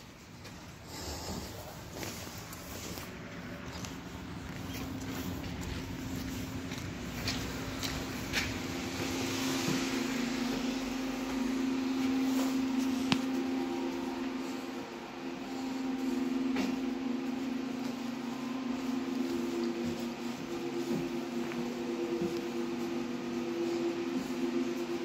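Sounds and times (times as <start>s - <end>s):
tram electric hum: 0.0s - 25.0s.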